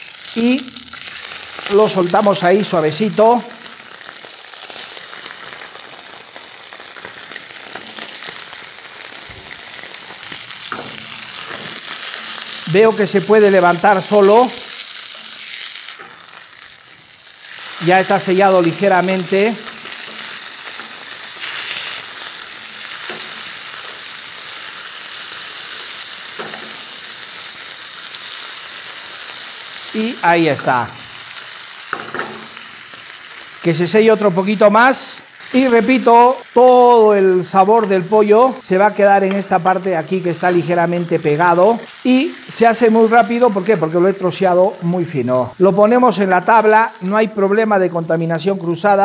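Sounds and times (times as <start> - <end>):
meat sizzling in hot oil: 0.0 - 49.0.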